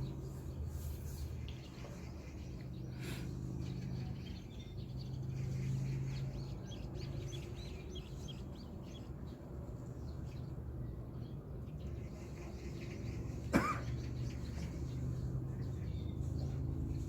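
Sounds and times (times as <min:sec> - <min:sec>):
songbirds chirping: 0:00.0 - 0:17.0
steady low hum: 0:00.0 - 0:17.0.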